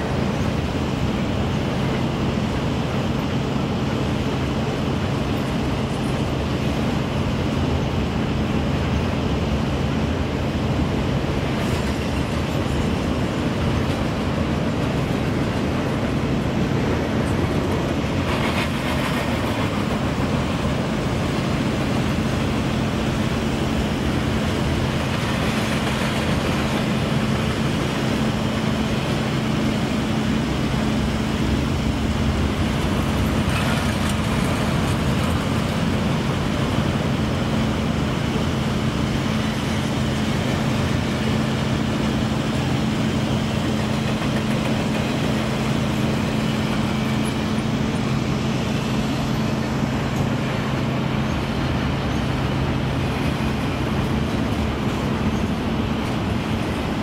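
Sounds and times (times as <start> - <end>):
freight train rolling on rails: 0.0 - 57.0.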